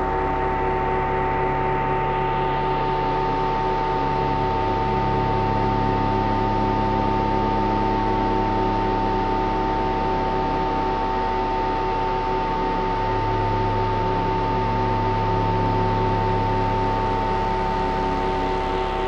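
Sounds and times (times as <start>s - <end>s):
sustained synthesizer drone: 0.0s - 19.0s.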